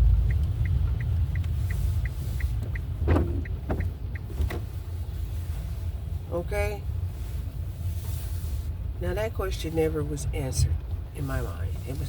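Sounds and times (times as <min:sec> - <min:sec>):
turn signal ticking: 0:00.0 - 0:07.9, 0:08.7 - 0:12.0
car driving rumble: 0:00.0 - 0:12.0.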